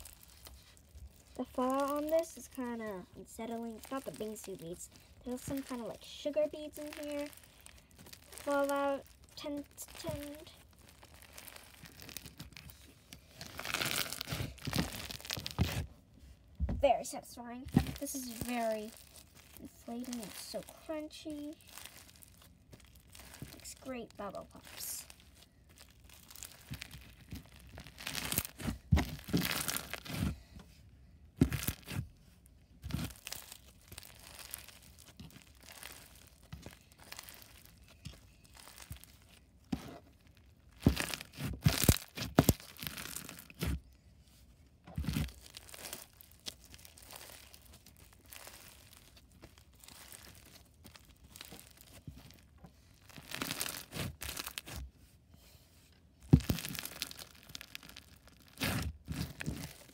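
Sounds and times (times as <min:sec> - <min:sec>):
slime crackling and popping: 0:00.0 - 0:16.0, 0:17.5 - 0:30.6, 0:31.3 - 0:44.0, 0:44.7 - 0:54.8, 0:56.2 - 0:59.9.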